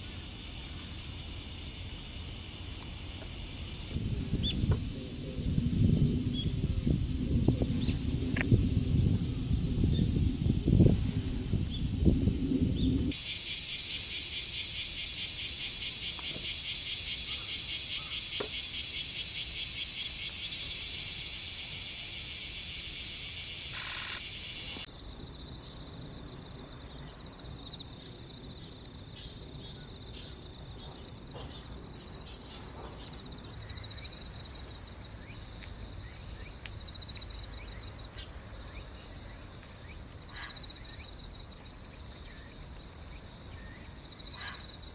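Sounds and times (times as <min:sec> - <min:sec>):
insects buzzing and trilling: 0:00.0 - 0:44.9.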